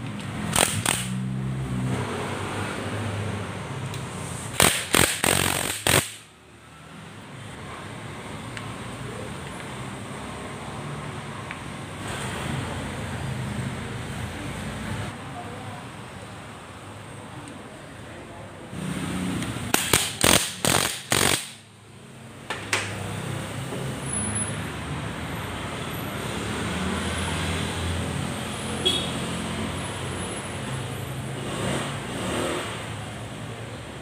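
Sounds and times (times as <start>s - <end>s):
low traffic rumble: 0.0s - 34.0s.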